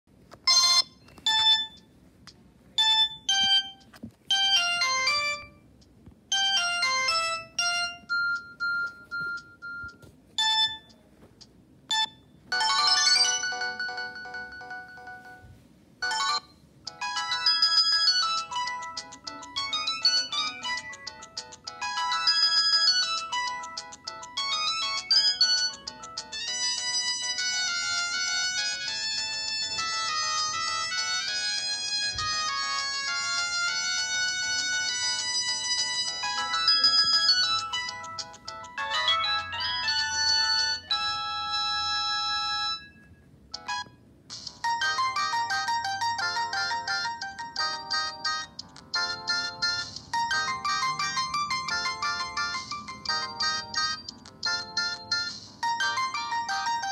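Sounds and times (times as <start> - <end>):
phone ringtone melodies: 0.5 - 1.9, 2.8 - 5.7, 6.3 - 11.0, 11.9 - 56.9.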